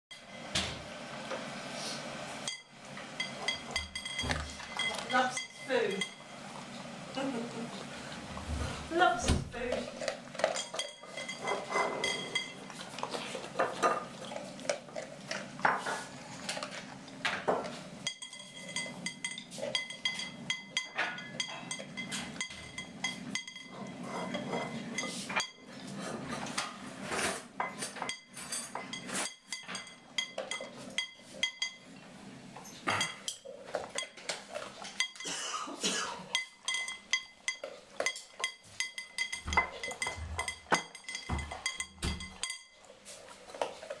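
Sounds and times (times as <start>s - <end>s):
dog eating from ceramic bowl: 2.4s - 32.0s, 32.6s - 35.4s, 36.2s - 44.0s.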